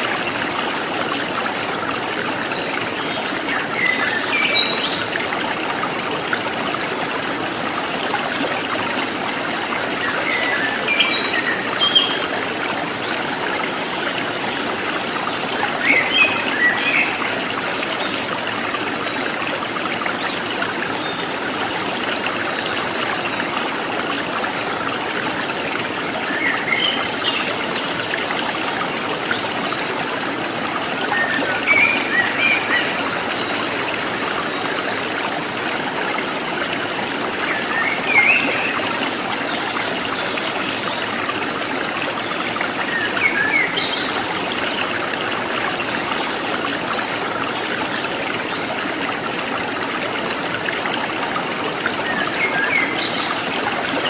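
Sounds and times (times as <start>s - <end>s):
stream trickling: 0.0s - 54.0s.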